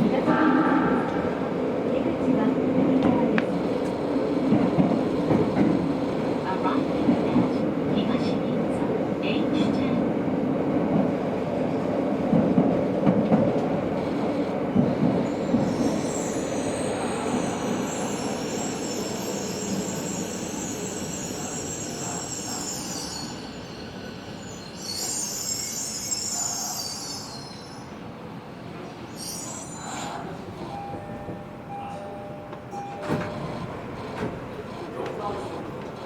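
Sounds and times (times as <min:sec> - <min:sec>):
subway train running rumble: 0:00.0 - 0:36.0.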